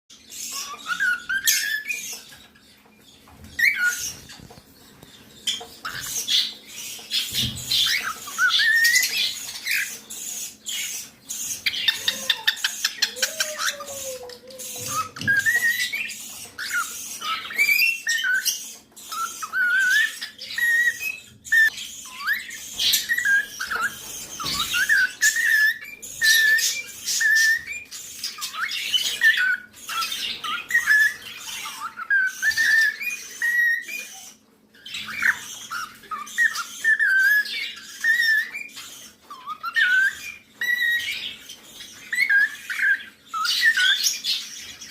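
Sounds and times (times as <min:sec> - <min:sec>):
cockatiel chirping and whistling: 0:00.3 - 0:02.7, 0:03.5 - 0:44.9.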